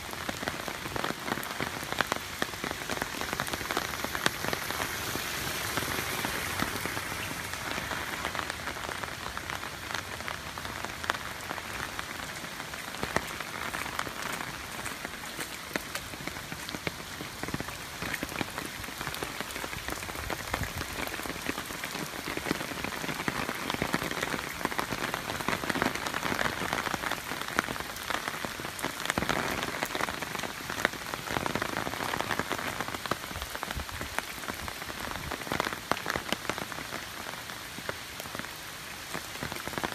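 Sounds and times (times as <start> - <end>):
heavy rain on wet pavement: 0.0 - 39.9.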